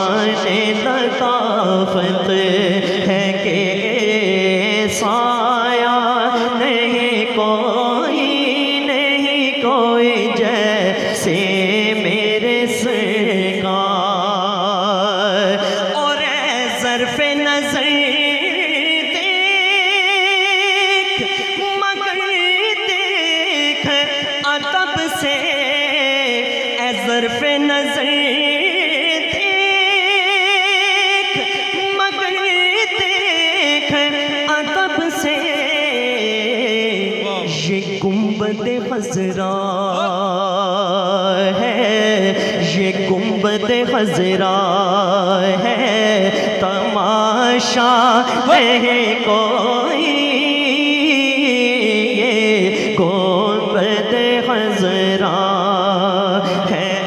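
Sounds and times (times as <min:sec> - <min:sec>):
man singing into a microphone: 0:00.0 - 0:57.0.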